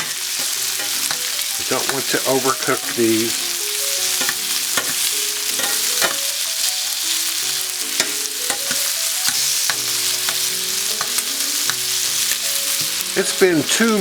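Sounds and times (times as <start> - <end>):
chicken sizzling in skillet: 0.0 - 14.0.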